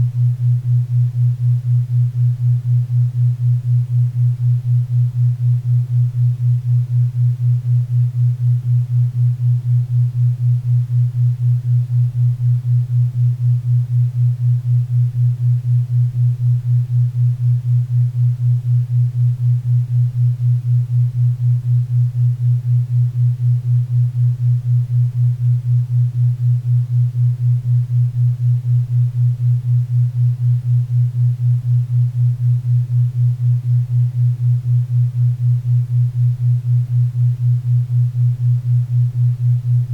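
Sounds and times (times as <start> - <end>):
low pulsing hum: 0.0 - 39.9.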